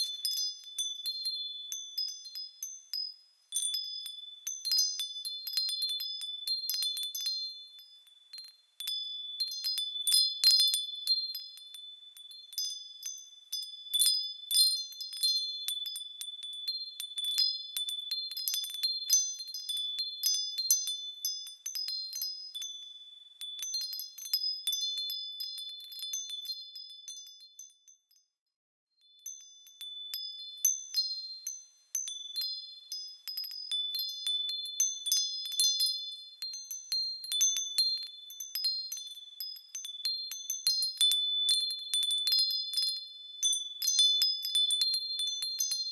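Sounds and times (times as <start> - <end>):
small bells ringing: 0.0 - 28.4, 29.0 - 45.9.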